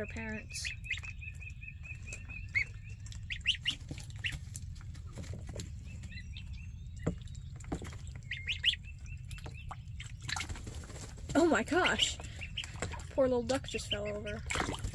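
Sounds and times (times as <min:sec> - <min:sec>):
ducklings and goslings peeping: 0:00.0 - 0:14.9
low steady hum: 0:00.0 - 0:14.9.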